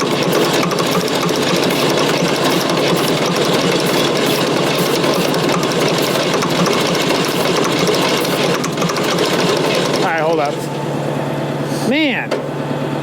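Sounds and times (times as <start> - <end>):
diesel engine cranking: 0.0 - 10.8.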